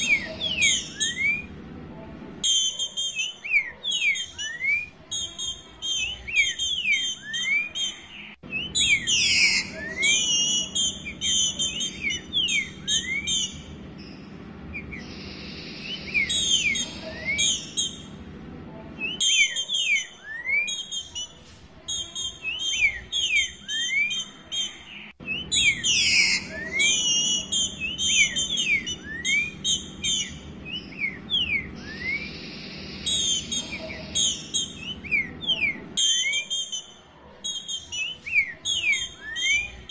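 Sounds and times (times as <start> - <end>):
bird whistling rising notes: 0.0 - 1.5, 2.4 - 18.1, 22.2 - 39.9.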